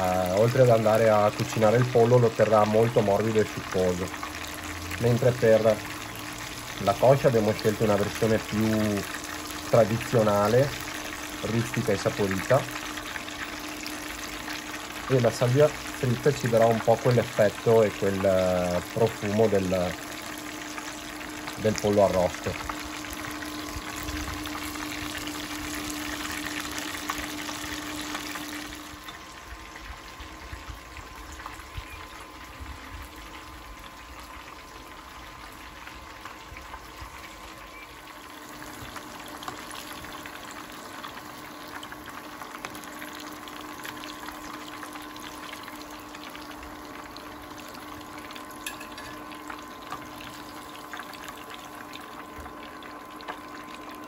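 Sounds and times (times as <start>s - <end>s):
faint steady hum: 0.0s - 54.0s
hot oil sizzling: 0.0s - 54.0s.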